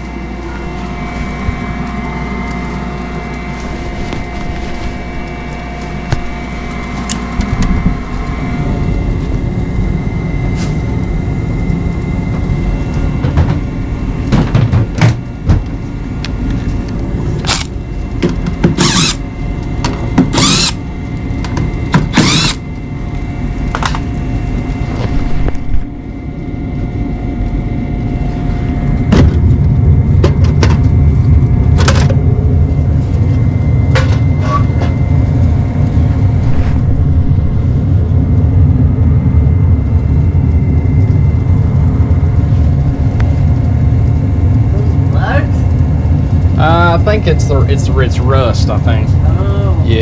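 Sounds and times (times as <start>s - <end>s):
gas furnace rumbling: 0.0s - 50.0s.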